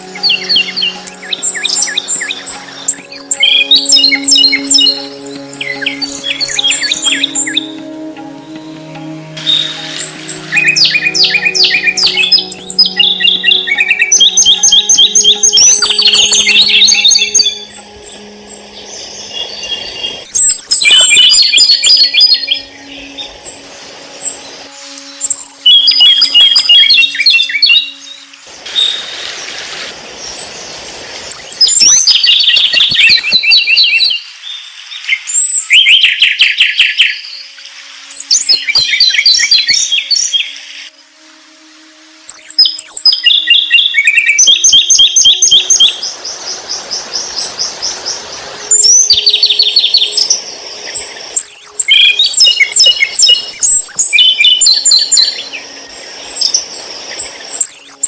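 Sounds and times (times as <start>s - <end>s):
songbird trilling and whistling: 0.0s - 23.6s, 24.2s - 29.6s, 30.3s - 40.9s, 42.3s - 58.0s.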